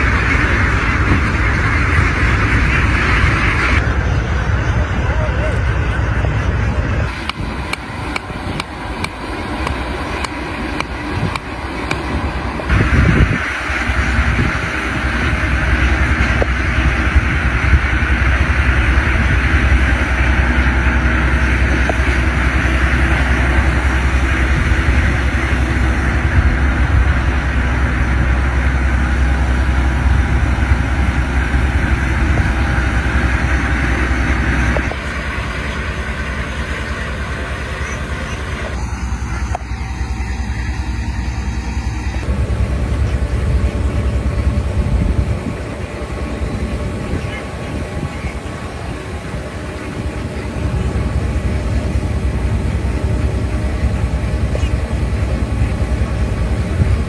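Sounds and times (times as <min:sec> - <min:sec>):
vehicle engine rumble: 0:00.0 - 0:57.0.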